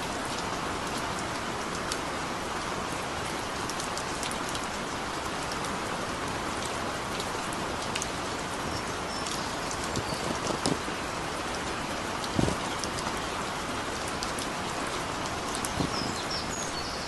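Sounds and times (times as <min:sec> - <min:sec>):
heavy rain falling: 0:00.0 - 0:17.0
drops ticking and splashing: 0:03.0 - 0:17.0.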